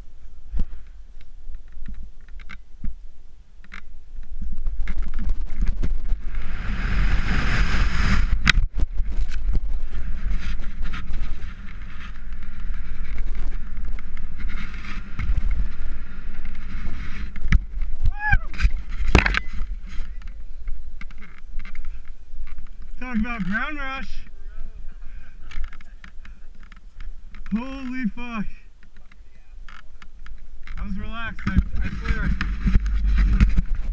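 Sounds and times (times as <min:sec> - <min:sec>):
wind rushing over microphone: 0:04.0 - 0:29.1, 0:30.1 - 0:33.9.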